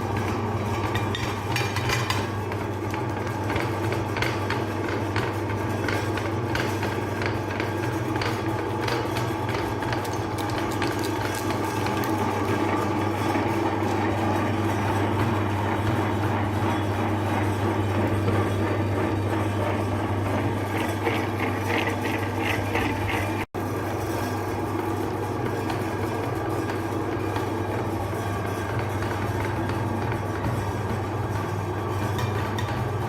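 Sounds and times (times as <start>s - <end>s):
electric meat grinder running: 0.0s - 33.0s.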